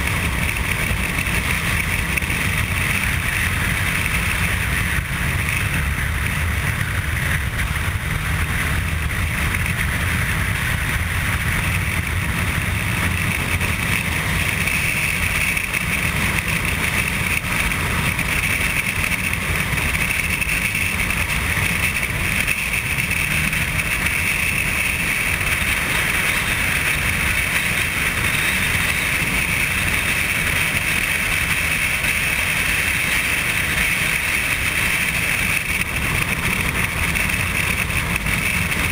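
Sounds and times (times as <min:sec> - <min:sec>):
motorcycle engine and tyre noise: 0:00.0 - 0:38.9.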